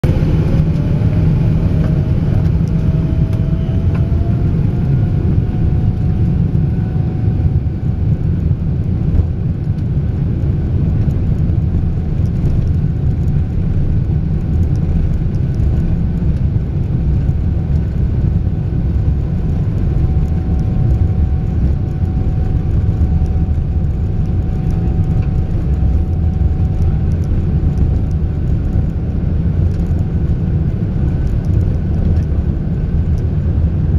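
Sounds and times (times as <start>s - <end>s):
airliner engines during takeoff: 0.0s - 33.9s.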